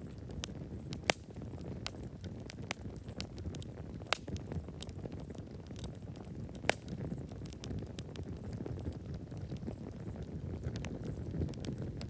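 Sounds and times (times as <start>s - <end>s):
campfire crackling and popping: 0.0s - 12.0s
low rumble of flames: 0.0s - 12.0s.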